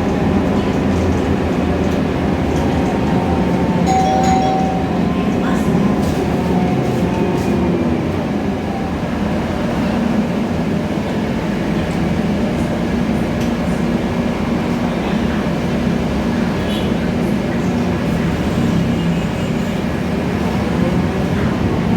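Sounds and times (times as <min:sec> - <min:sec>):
bus engine drone: 0:00.0 - 0:21.9
road noise: 0:00.0 - 0:21.9.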